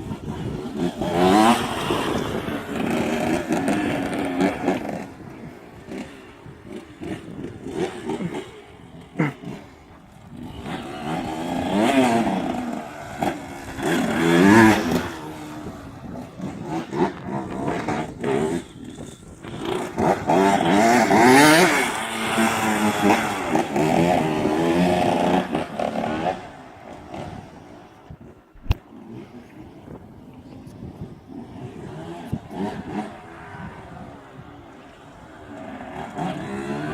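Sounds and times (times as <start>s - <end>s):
motocross bike engine revving: 0.0s - 28.4s, 29.0s - 36.9s.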